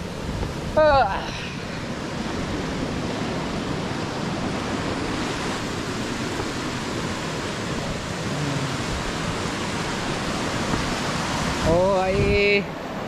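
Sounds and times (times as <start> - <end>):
mountain stream running: 0.0 - 13.0.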